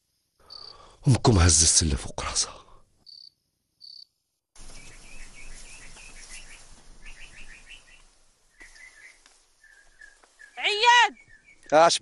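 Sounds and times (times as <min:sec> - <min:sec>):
songbird singing: 0:00.0 - 0:01.0, 0:03.0 - 0:12.0
cricket chirps: 0:00.0 - 0:12.0
outdoor background noise: 0:00.0 - 0:12.0.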